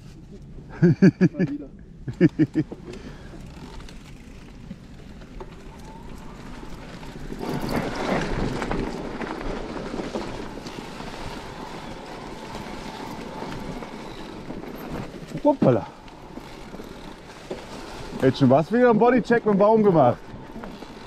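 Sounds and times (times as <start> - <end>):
bike rattle: 2.1 - 21.0
tyres rolling through dry leaves: 2.3 - 21.0.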